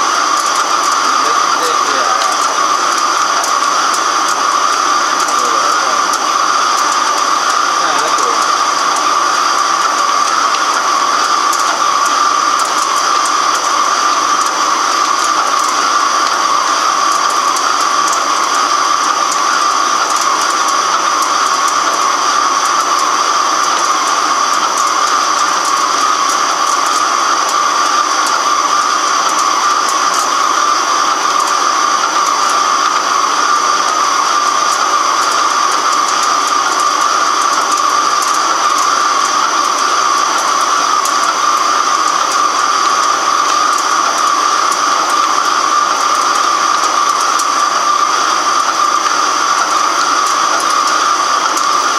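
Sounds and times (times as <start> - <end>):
high machine whine: 0.0 - 51.9
lathe machining metal: 0.0 - 51.9.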